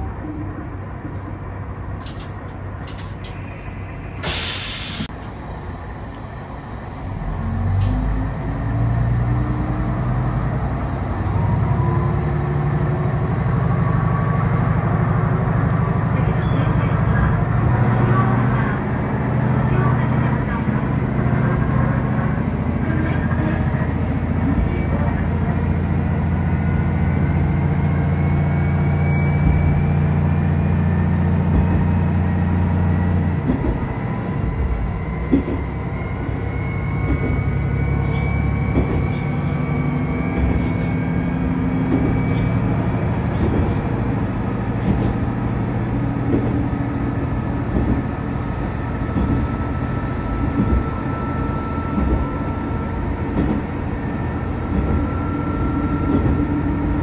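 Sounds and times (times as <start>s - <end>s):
diesel railcar engine drone: 0.0s - 57.0s.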